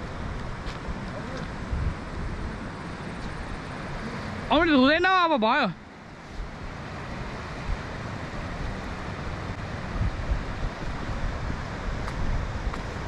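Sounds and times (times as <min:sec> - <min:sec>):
wind buffeting microphone: 0:00.0 - 0:04.6, 0:06.4 - 0:13.0.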